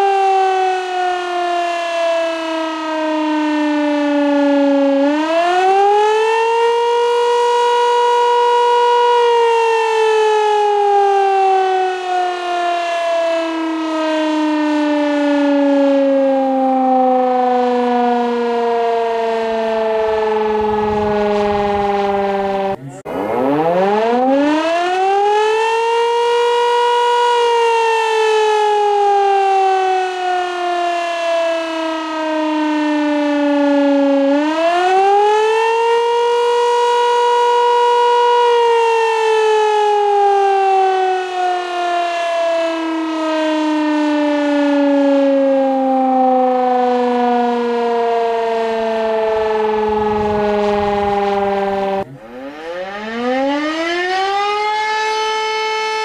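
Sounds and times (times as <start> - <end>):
civil defence siren wailing: 0.0 - 56.0.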